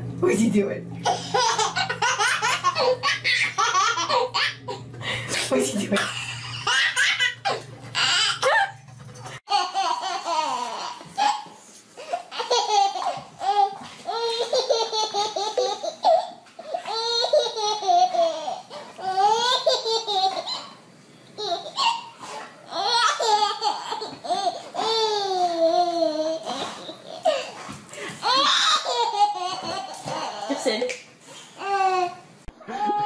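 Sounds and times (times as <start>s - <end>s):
baby laughing: 1.0s - 4.9s, 6.0s - 8.8s, 9.5s - 20.8s, 21.4s - 30.8s.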